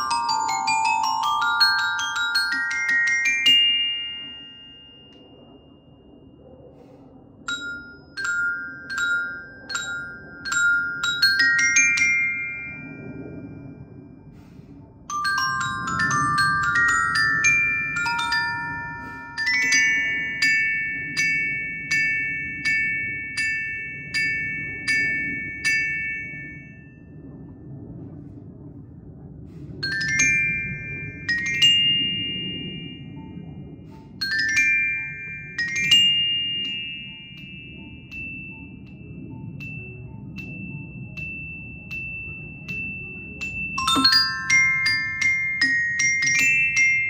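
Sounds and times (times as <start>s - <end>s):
glockenspiel notes ringing: 0.0s - 5.3s, 7.5s - 13.4s, 15.1s - 26.8s, 29.9s - 33.2s, 34.0s - 47.0s.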